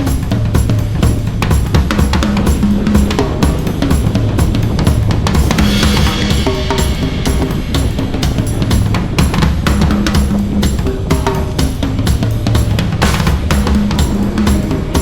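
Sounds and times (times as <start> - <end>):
cymbal wash: 0.0 - 15.0
drum kit beat: 0.0 - 15.0.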